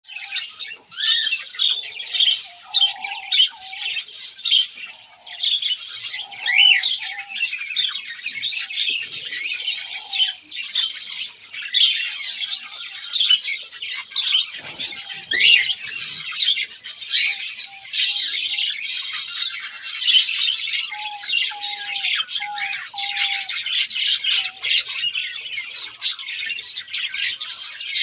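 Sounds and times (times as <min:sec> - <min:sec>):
birds chirping and squawking: 0:00.0 - 0:28.0
lower bird calls: 0:00.0 - 0:28.0.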